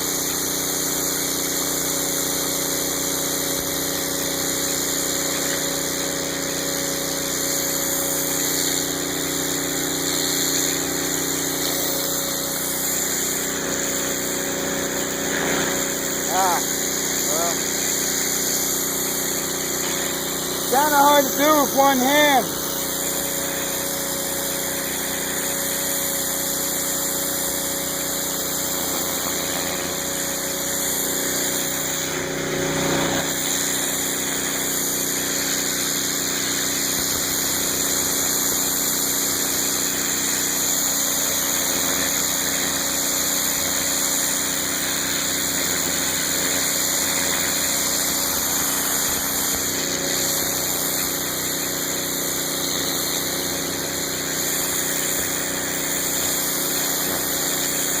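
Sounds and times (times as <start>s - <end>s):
pressure washer running: 0.0s - 58.0s.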